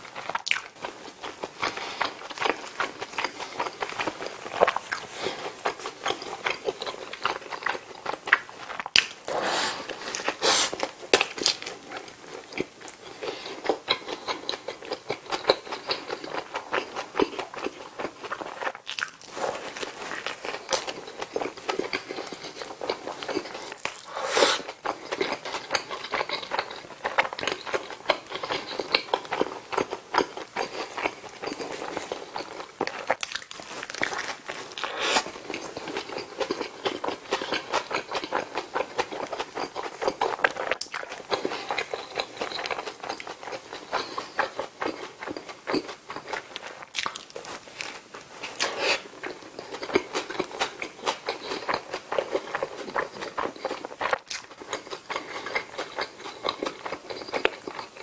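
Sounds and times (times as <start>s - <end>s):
chewing with wet mouth smacks: 0.1s - 58.0s.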